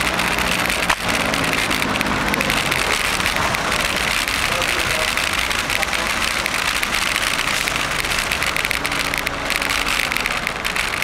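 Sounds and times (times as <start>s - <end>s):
bicycle road rumble: 0.0s - 11.0s
rapid rattle of small clicks: 0.0s - 11.0s.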